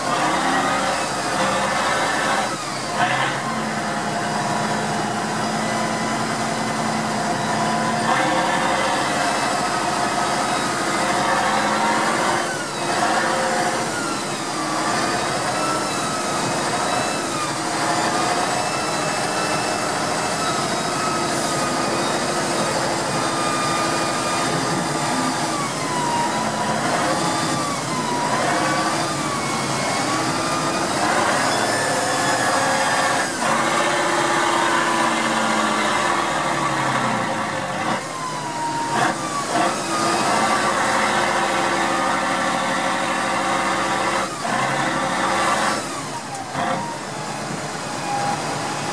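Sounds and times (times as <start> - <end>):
truck diesel engine revving: 0.0 - 48.9.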